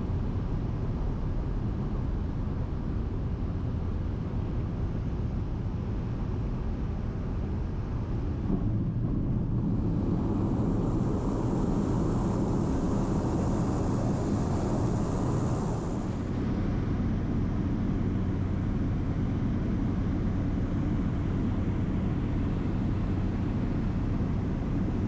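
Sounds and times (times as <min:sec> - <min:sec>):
airplane engines droning in cabin: 0:00.0 - 0:25.0.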